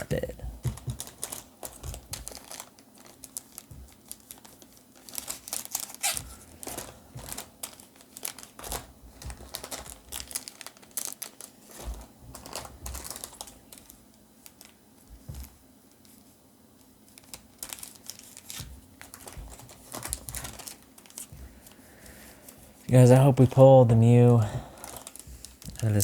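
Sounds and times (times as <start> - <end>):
foil wrapper tearing: 0.0 - 14.8, 17.1 - 21.8, 24.4 - 26.0
foil wrappers crinkling: 0.0 - 26.0.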